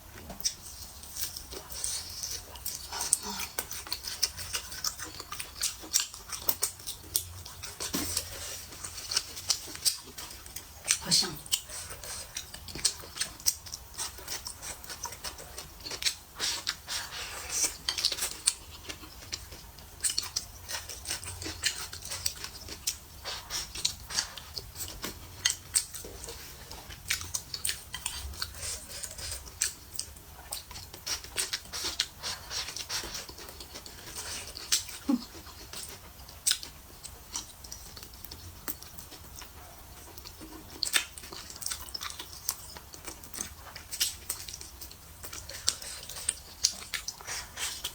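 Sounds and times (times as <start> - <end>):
chewing and lip-smacking: 0.2 - 47.9.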